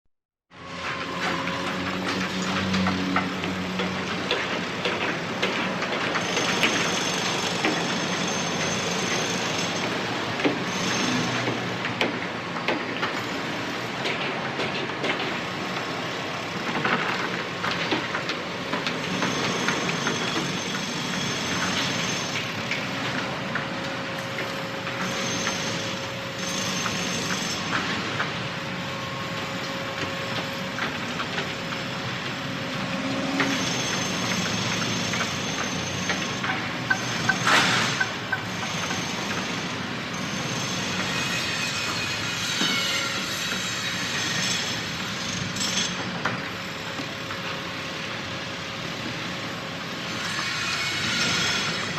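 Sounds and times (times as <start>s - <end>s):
machinery running: 0.5s - 42.3s.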